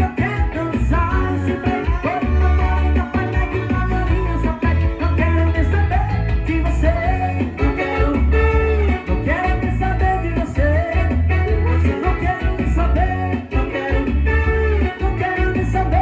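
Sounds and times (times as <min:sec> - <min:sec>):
live band playing upbeat song: 0:00.0 - 0:16.0.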